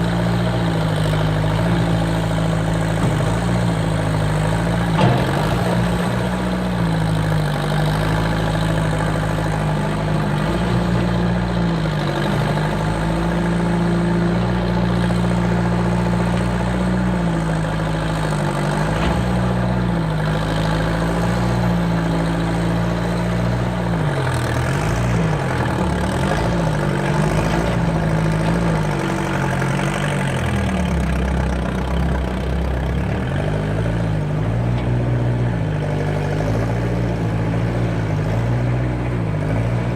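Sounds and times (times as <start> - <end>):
skid steer engine under load: 0.0 - 39.9.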